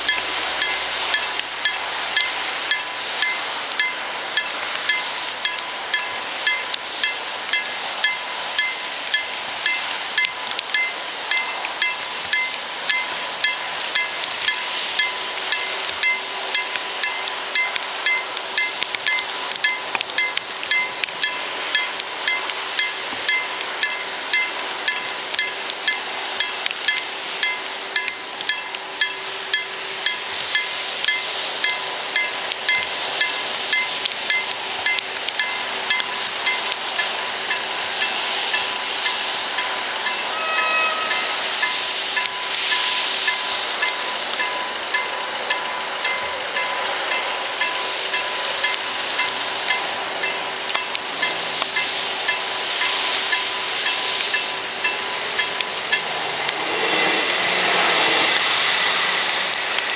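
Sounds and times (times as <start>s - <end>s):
level crossing bell ringing: 0.0s - 56.2s.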